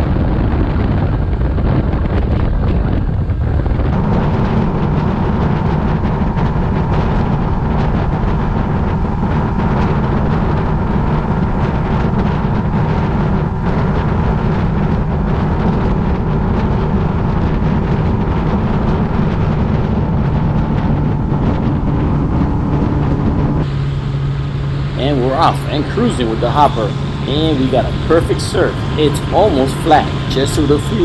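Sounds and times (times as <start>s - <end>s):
outboard engine running: 0.0s - 31.0s
rush of wake and wind: 0.0s - 31.0s.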